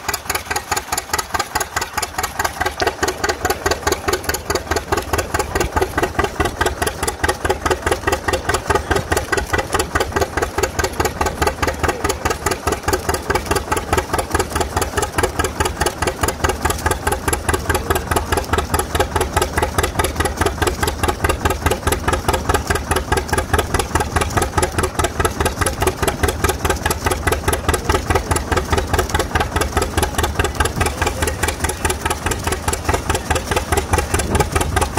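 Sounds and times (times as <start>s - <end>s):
tractor engine popping exhaust: 0.0s - 34.9s.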